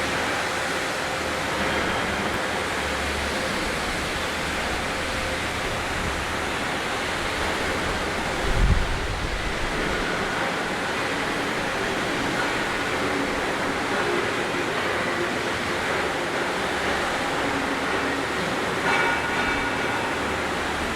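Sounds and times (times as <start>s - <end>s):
factory machinery roar: 0.0s - 20.9s.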